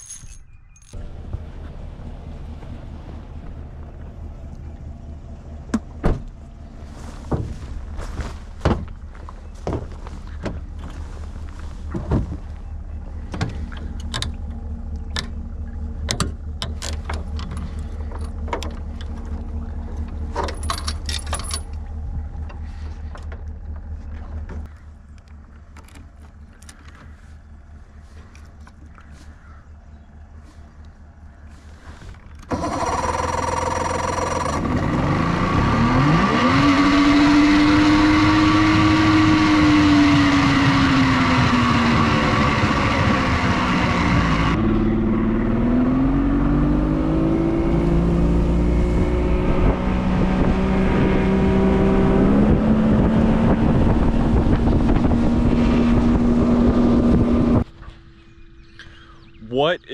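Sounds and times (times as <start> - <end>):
low hum: 0.0 - 59.9
outboard motor starting and running: 0.9 - 59.4.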